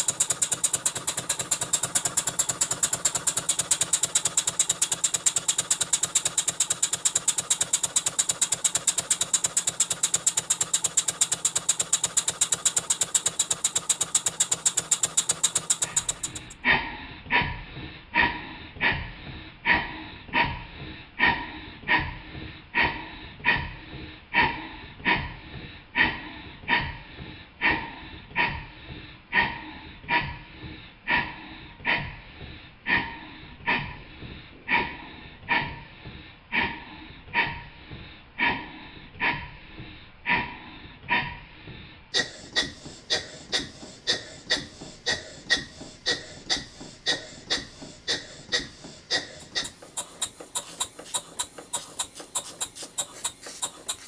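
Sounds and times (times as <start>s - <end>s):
steam engine exhaust puffs: 0.0s - 16.6s, 17.4s - 54.0s.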